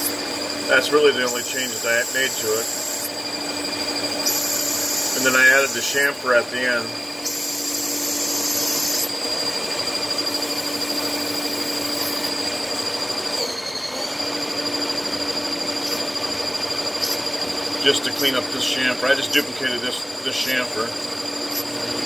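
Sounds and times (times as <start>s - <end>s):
lathe machining with high whine: 0.0s - 22.0s.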